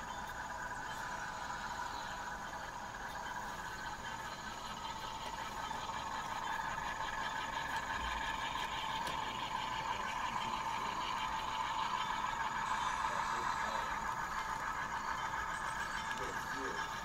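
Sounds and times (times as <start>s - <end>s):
model train engine drone: 0.0s - 17.0s.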